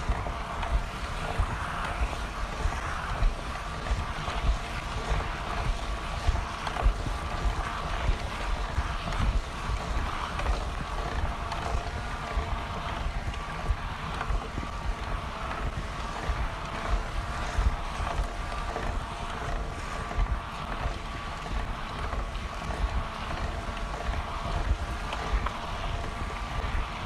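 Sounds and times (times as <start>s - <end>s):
faint steady whine: 0.0s - 27.0s
wind buffeting microphone: 0.0s - 27.0s.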